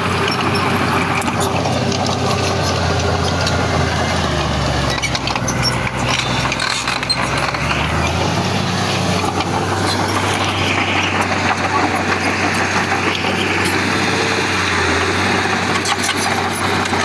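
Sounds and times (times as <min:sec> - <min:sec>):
diesel machinery running: 0:00.0 - 0:17.0.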